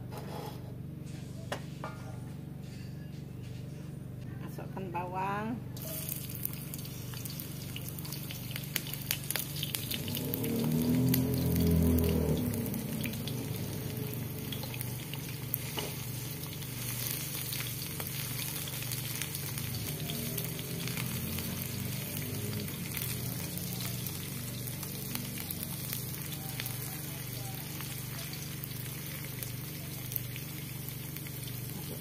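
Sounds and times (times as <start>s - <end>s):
shallots sizzling in hot oil: 5.8s - 32.0s.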